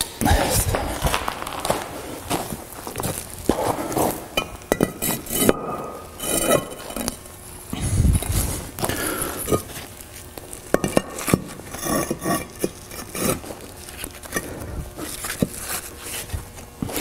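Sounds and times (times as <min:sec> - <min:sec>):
gritty concrete scraping: 0:00.2 - 0:07.3, 0:07.9 - 0:17.0.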